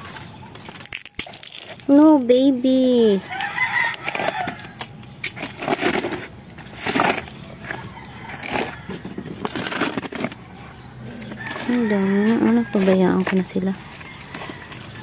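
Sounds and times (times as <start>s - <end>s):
leaves and plastic pot rustling: 0.0s - 15.0s.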